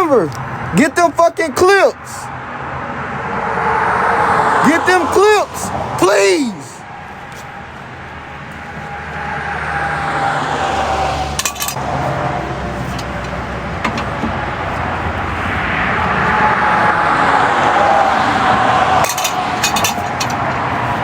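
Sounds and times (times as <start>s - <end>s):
motor vehicle noise: 0.0s - 21.0s.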